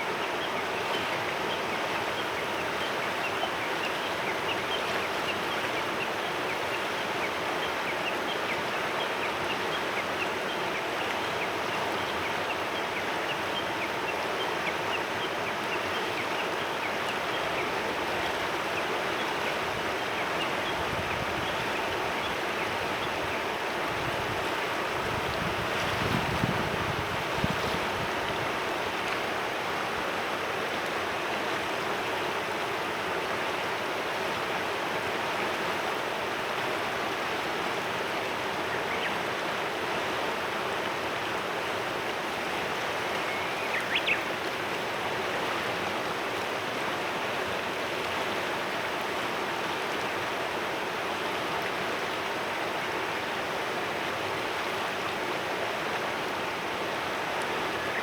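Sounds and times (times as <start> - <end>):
river running over stones: 0.0 - 58.0.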